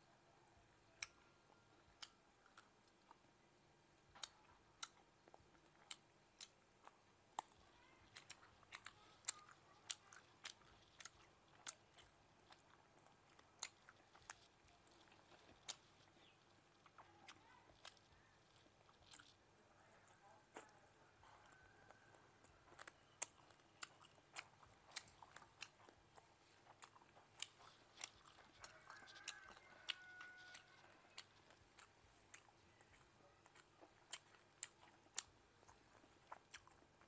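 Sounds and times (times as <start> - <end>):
biting and chewing meat: 0.7 - 37.0
mouth clicks and crunches: 1.8 - 37.0.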